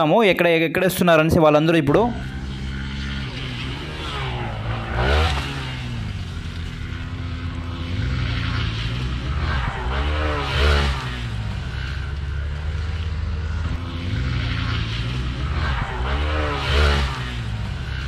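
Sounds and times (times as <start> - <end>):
dirt bike engines revving: 1.2 - 18.0.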